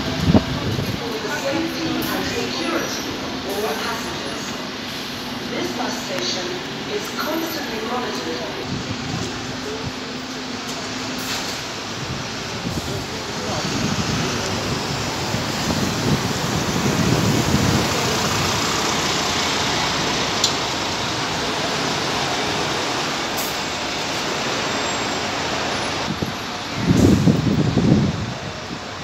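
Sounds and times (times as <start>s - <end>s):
bus diesel engine pulling away: 0.0s - 29.0s
traffic noise: 0.0s - 29.0s.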